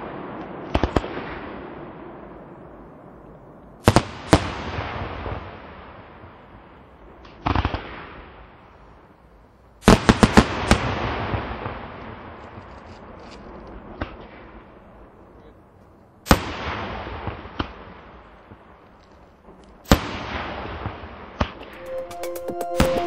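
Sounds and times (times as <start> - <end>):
fireworks bursting with echo: 0.0 - 9.2, 9.8 - 15.3, 16.2 - 23.0.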